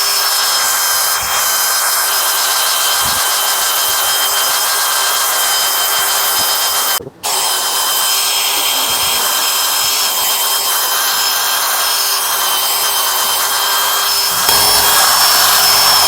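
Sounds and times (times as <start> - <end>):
polishing pad hissing rub: 0.0 - 16.0
power drill motor whine: 0.0 - 16.0.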